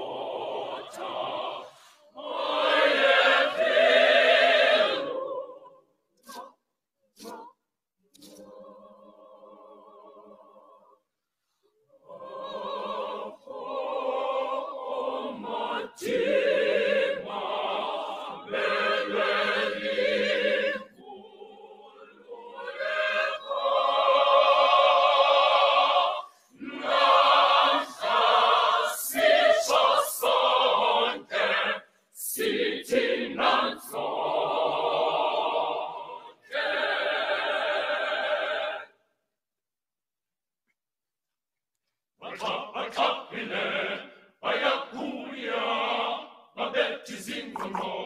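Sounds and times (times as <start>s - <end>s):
children's choir singing: 0.0s - 6.6s, 8.2s - 11.0s, 12.0s - 39.0s, 42.2s - 48.0s.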